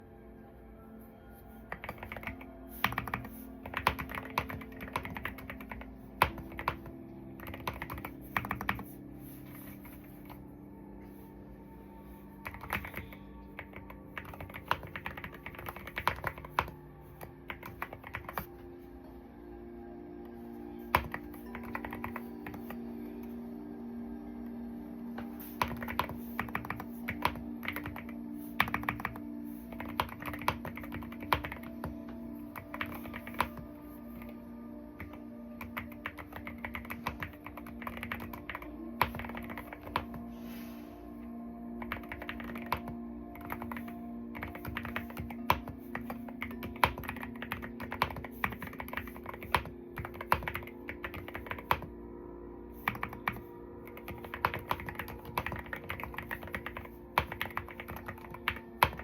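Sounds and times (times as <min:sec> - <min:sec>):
soft background music: 0:00.0 - 0:59.0.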